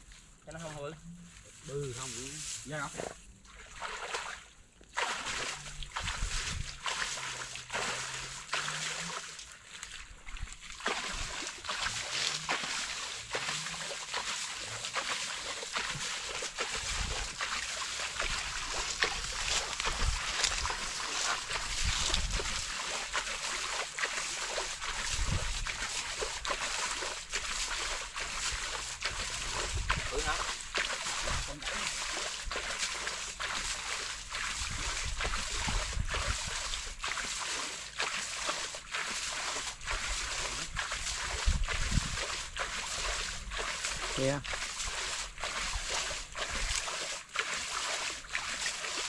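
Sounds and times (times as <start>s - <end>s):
splashing through wet stubble: 1.7s - 49.0s.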